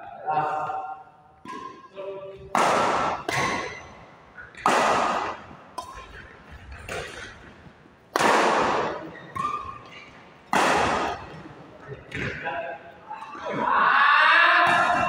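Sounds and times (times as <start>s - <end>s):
rackets hitting shuttlecock: 0.6s - 13.6s, 14.6s - 15.0s.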